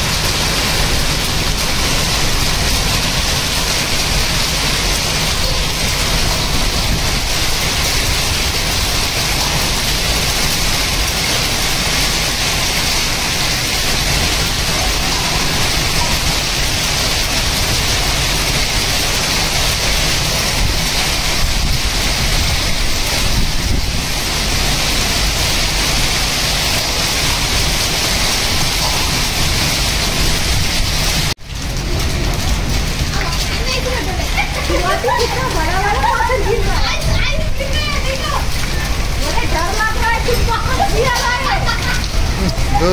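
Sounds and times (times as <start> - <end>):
hail and rain on concrete roof: 0.0 - 42.9.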